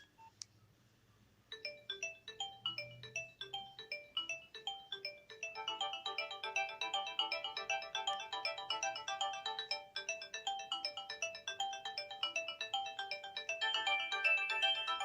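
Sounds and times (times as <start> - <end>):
electronic phone ringtone: 1.6 - 15.0.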